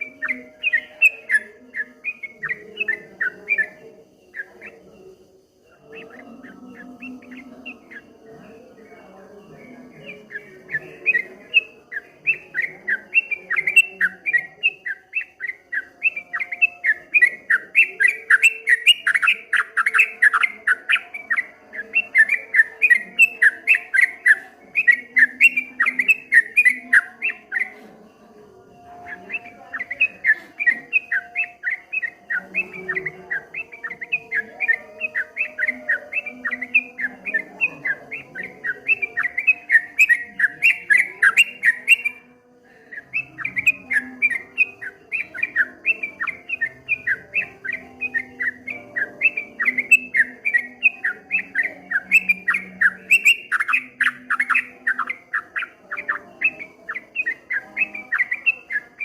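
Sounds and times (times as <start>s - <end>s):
bird singing rapid chirps: 0.0s - 59.0s.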